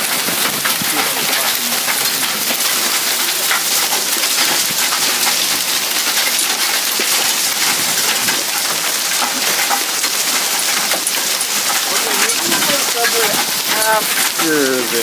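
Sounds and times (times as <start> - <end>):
hailstones pattering: 0.0 - 15.0.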